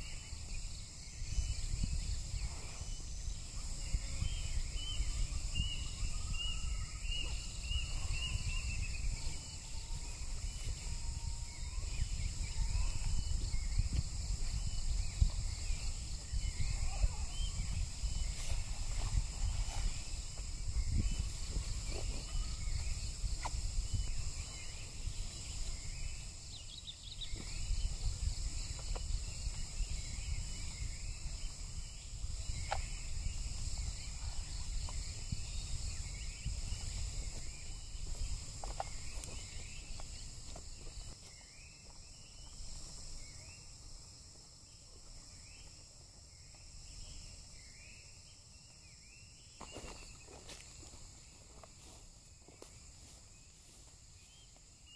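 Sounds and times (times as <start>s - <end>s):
insects chorus: 0.0s - 54.9s.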